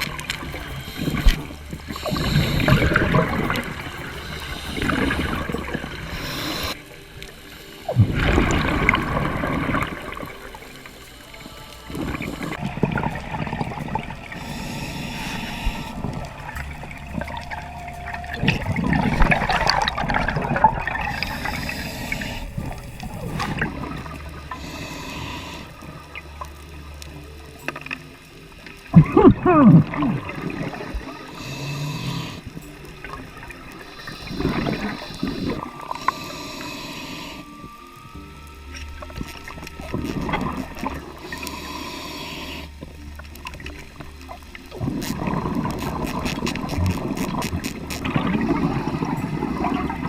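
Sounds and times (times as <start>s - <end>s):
regulator breathing underwater: 0.0s - 28.3s, 29.0s - 50.0s
bubbles gurgling: 0.0s - 50.0s.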